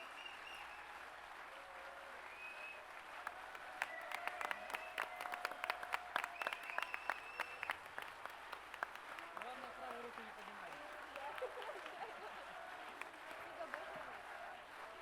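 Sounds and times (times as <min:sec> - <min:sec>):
audience applauding: 0:00.4 - 0:15.0.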